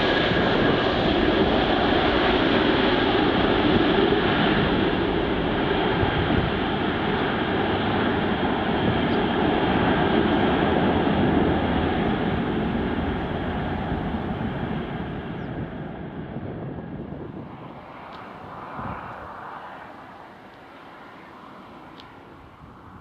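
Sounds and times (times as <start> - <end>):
jet engine rush: 0.0 - 23.0.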